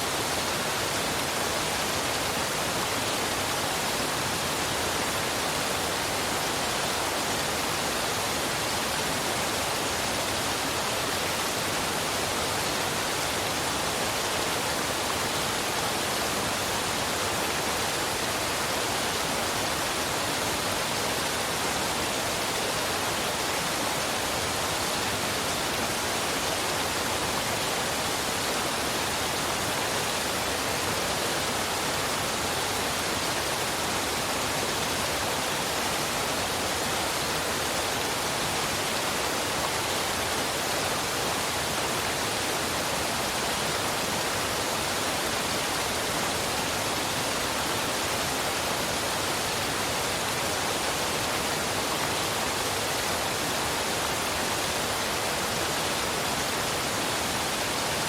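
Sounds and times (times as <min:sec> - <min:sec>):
waterfall and river rushing: 0:00.0 - 0:58.0.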